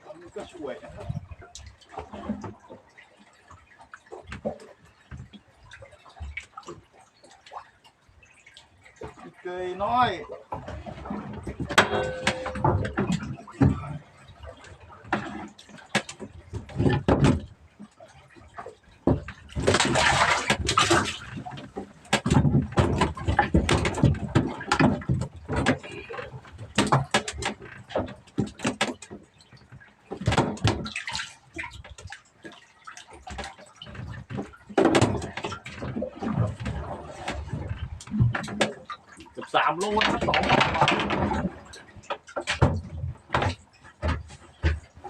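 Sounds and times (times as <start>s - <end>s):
knocks and clatter on boat: 0.0s - 45.0s
water splashing: 0.0s - 45.0s.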